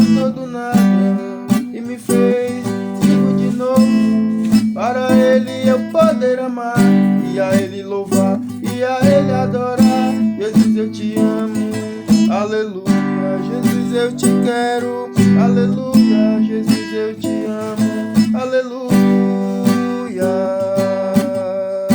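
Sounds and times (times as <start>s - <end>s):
acoustic guitar strumming chords: 0.0s - 21.9s.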